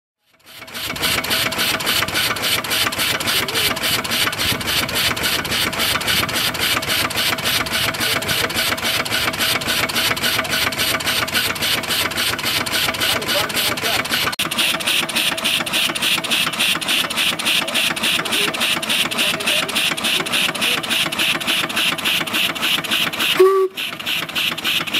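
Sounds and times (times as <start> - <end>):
steam engine puffing and clanking: 0.3 - 24.9.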